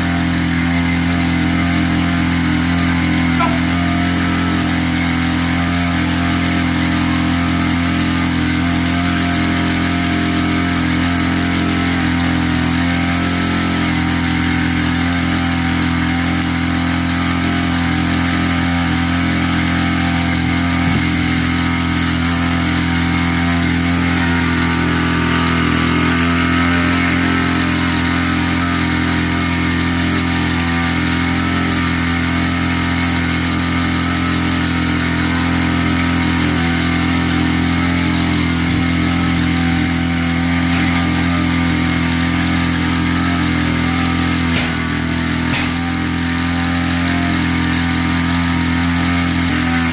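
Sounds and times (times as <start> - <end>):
small engine running steadily: 0.0 - 49.9.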